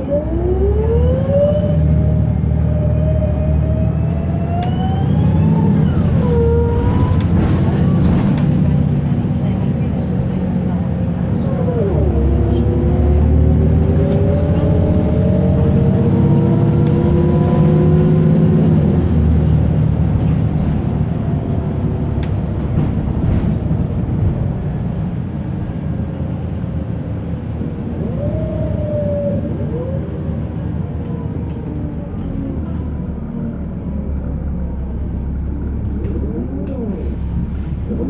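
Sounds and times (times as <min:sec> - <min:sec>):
bus diesel engine: 0:00.0 - 0:38.0.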